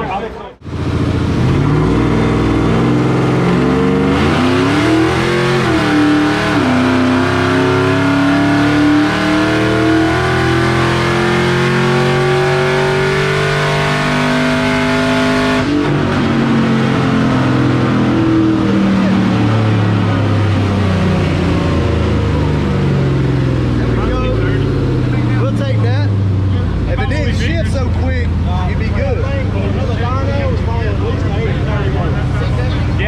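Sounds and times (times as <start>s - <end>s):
pickup engine revving at full throttle: 0.6s - 33.0s.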